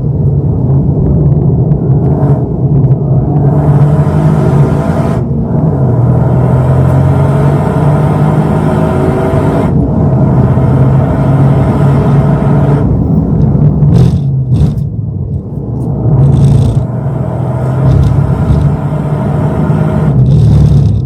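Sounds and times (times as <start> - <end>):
car engine running hard: 0.0 - 21.0
road and wind noise: 0.0 - 21.0.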